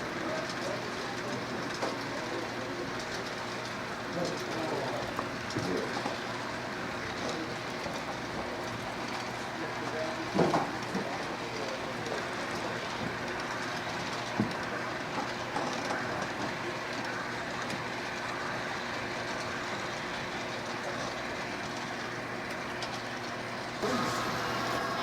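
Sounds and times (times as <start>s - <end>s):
model train rolling on track: 0.0s - 25.0s.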